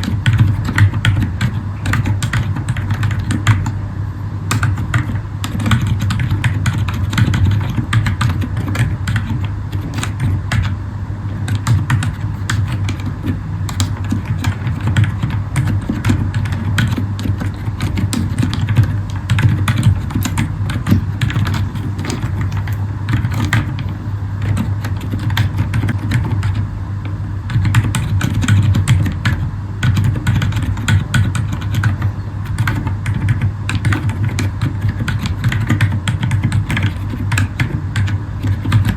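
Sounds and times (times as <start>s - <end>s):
soft mechanical keyboard typing: 0.0s - 3.8s, 4.5s - 10.8s, 11.4s - 26.7s, 27.5s - 38.9s
steady low hum: 0.0s - 38.9s.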